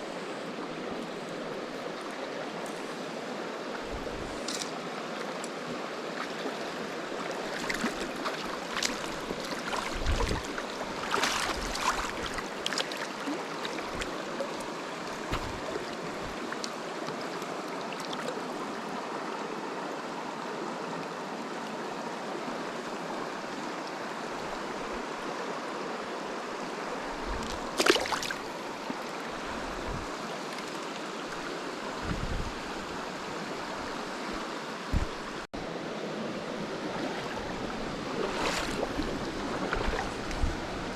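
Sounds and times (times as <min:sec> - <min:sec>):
creek water flowing: 0:00.0 - 0:40.9.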